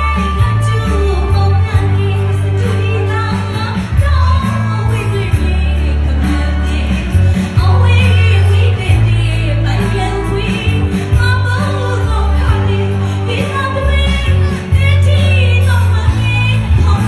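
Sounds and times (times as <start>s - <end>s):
music with steady bass line: 0.0s - 17.0s
woman singing into microphone: 0.0s - 17.0s.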